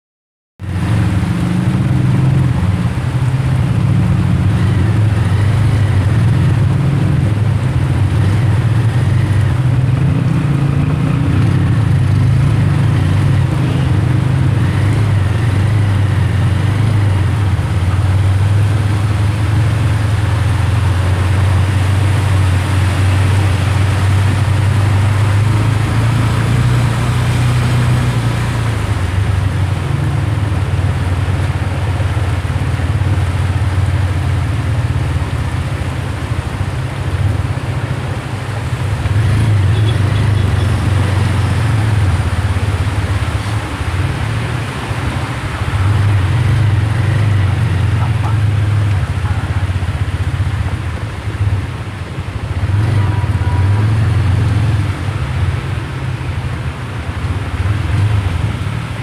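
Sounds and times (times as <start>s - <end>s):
heavy rain pouring: 0.6s - 59.0s
vehicle engine droning: 0.6s - 59.0s.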